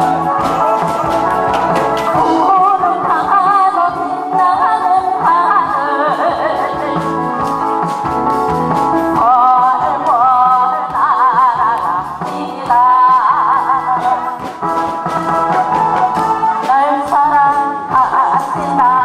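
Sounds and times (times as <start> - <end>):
woman singing with vibrato: 0.0 - 7.5, 9.0 - 14.7, 16.4 - 19.0
instrumental accompaniment: 0.0 - 19.0.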